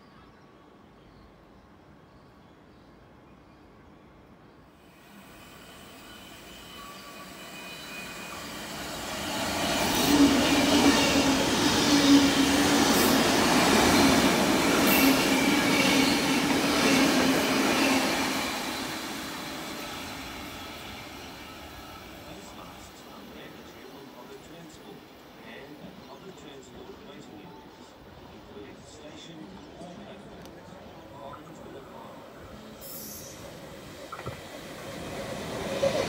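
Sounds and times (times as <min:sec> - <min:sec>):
electric train passing humming: 0:04.7 - 0:26.0, 0:26.9 - 0:36.0.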